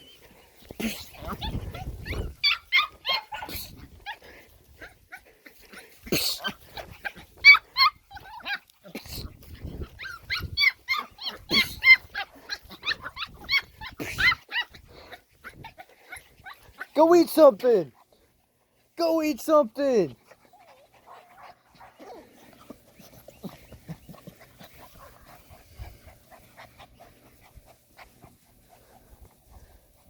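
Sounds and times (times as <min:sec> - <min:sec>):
puppies yipping and whimpering: 0:00.0 - 0:17.0, 0:20.2 - 0:30.0.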